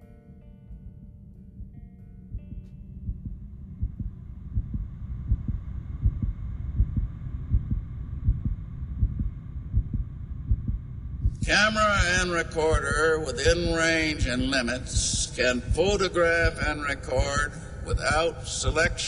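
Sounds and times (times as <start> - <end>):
low rumbling drone: 0.0 - 19.0
steady high hum: 0.0 - 19.0
deep pulses: 0.8 - 19.0.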